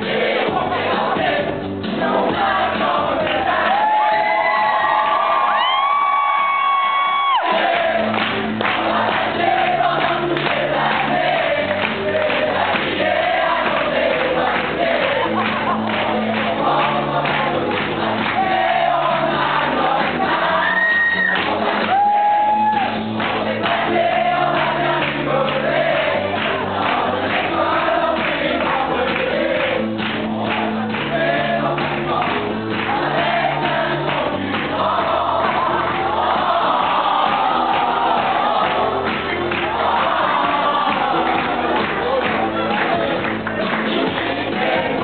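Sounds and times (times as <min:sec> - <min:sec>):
group singing: 0:00.0 - 0:05.7, 0:07.3 - 0:45.0.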